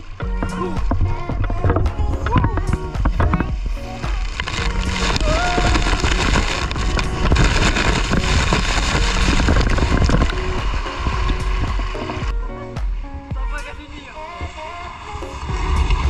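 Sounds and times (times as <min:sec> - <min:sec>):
rushing spattering water: 0:00.0 - 0:12.3, 0:13.6 - 0:16.0
faint background music: 0:00.0 - 0:16.0.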